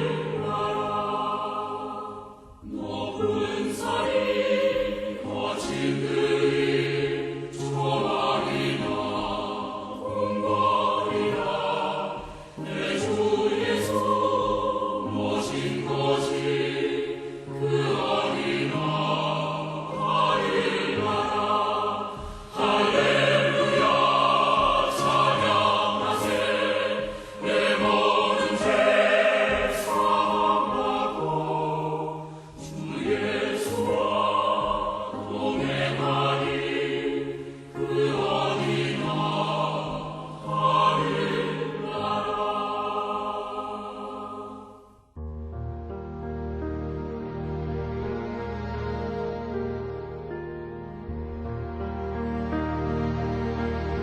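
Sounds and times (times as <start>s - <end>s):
choir singing: 0.0s - 45.1s, 46.5s - 54.0s.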